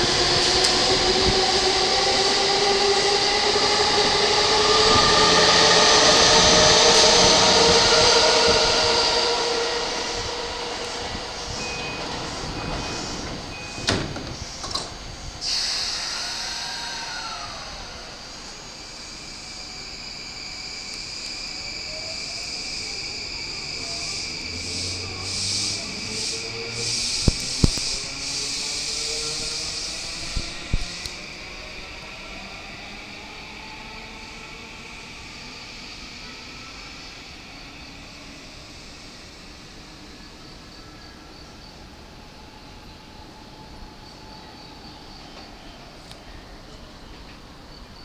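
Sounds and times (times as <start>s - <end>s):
electric train motors whining: 0.0s - 40.1s
train running noise: 0.0s - 48.0s.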